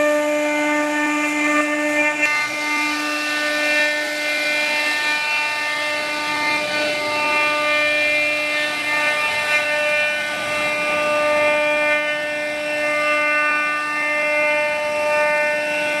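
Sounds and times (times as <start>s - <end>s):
bit cutting through wood: 0.0s - 16.0s
router spindle whining: 0.0s - 16.0s.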